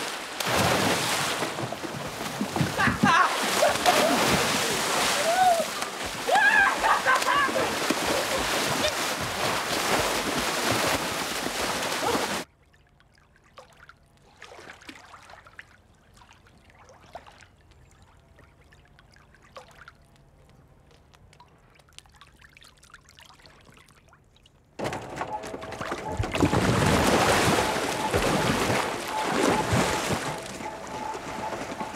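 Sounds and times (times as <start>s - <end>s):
pool water splashing: 0.0s - 31.9s
water trickling and lapping: 0.0s - 31.9s.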